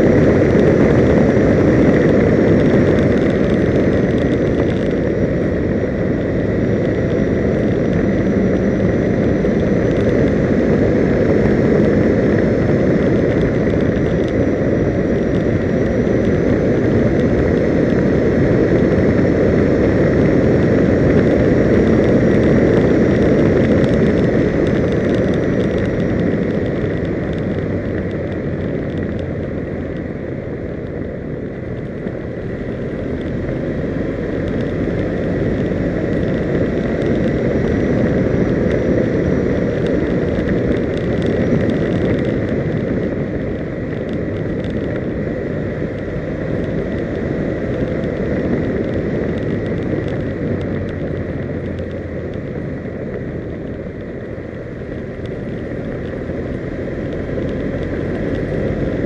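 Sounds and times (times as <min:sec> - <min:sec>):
faint steady whine: 0:00.0 - 0:59.0
vehicle running and tyre noise: 0:00.0 - 0:59.0
wind rushing over microphone: 0:00.0 - 0:59.0.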